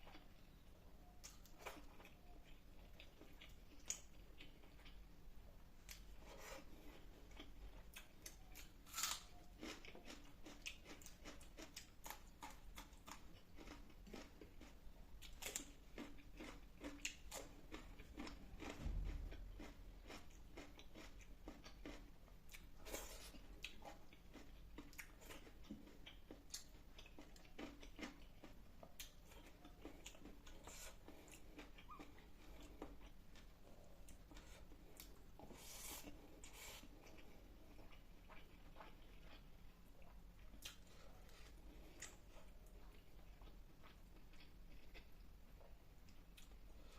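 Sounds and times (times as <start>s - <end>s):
person chewing: 1.1s - 5.2s, 5.8s - 46.9s.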